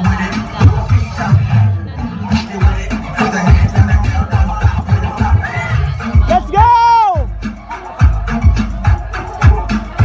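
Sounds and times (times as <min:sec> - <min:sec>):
hip hop music with heavy bass: 0:00.0 - 0:10.0.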